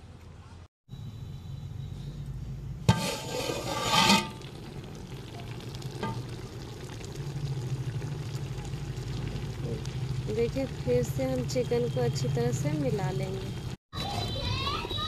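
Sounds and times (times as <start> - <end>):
curry sizzling in a metal pot: 2.8 - 15.0.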